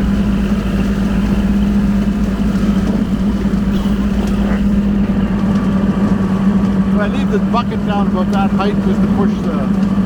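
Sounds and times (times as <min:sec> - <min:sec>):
rotary mower cutting growth: 0:00.0 - 0:09.0
tractor diesel engine under load: 0:00.0 - 0:10.0.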